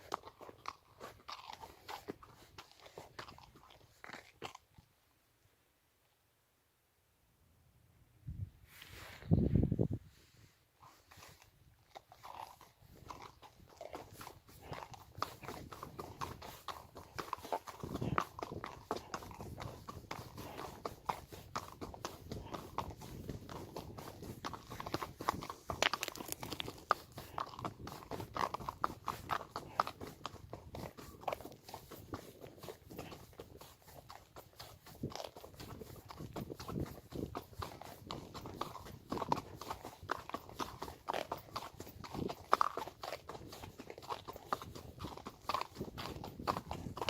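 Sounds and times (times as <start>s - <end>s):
horse hooves walking: 0.0s - 4.9s, 10.8s - 47.0s.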